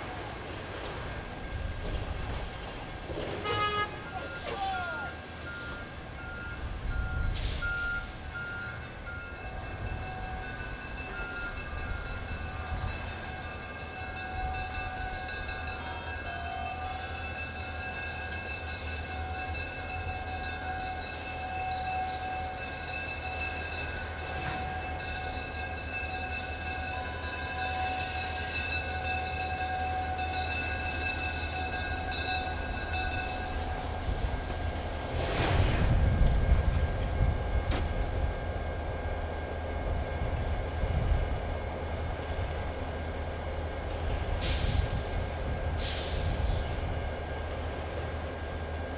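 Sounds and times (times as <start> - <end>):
diesel locomotive engine: 0.0 - 48.9.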